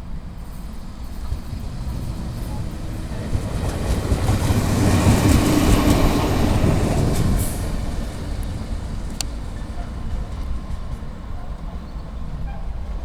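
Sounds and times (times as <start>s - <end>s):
locomotive passing on rails: 0.0s - 13.0s.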